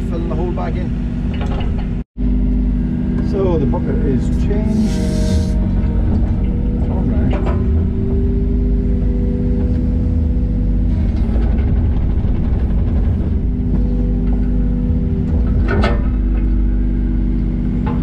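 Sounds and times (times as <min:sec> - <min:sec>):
excavator diesel engine running: 0:00.0 - 0:18.0
high hydraulic whine: 0:00.0 - 0:18.0.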